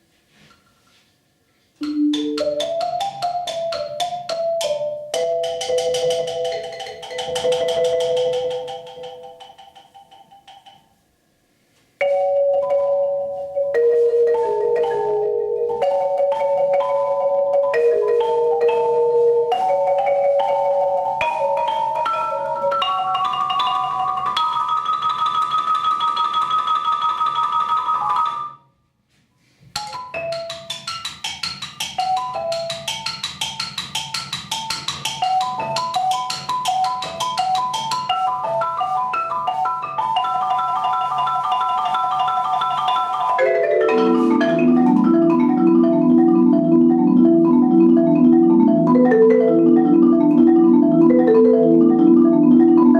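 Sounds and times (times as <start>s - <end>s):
solo marimba playing: 1.8s - 10.9s, 12.0s - 28.6s, 29.8s - 52.9s.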